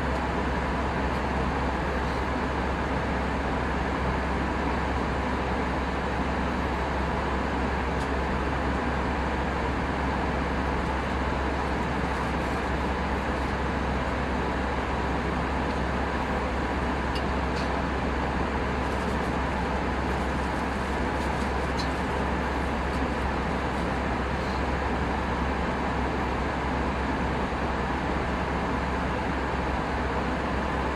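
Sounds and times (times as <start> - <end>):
airliner cabin airflow and engine: 0.0 - 30.9
constant low hum: 0.0 - 30.9.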